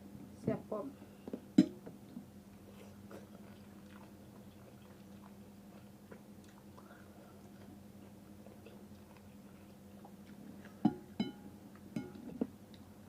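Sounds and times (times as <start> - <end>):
person chewing noodles: 2.0 - 13.0.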